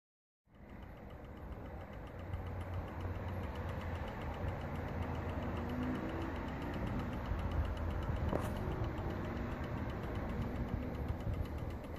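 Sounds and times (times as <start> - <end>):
clock ticking: 0.5 - 11.9
steady low hum: 0.5 - 11.9.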